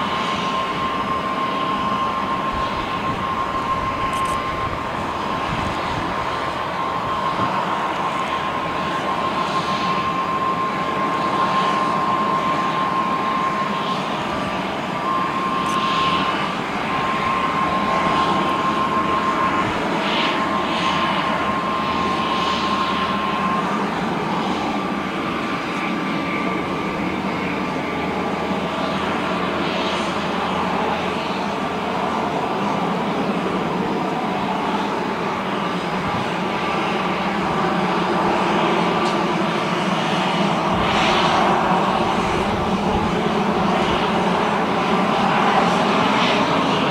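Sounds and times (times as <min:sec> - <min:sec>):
jet engine whine and rush: 0:00.0 - 0:46.9.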